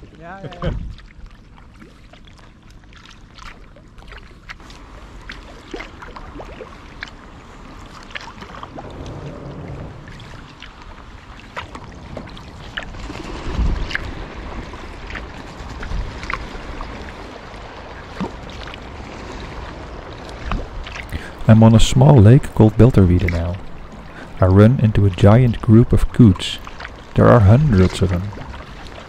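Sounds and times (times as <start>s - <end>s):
wind rumble on microphone: 0.0s - 1.3s, 4.6s - 29.0s
paddle splashing water: 0.0s - 29.0s
water lapping on hull: 0.0s - 29.0s.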